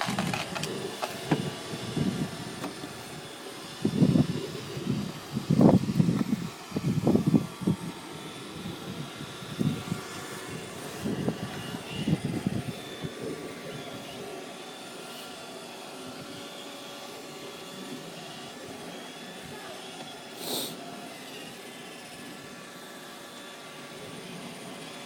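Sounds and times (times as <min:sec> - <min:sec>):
robot vacuum motor whine: 0:00.0 - 0:25.0.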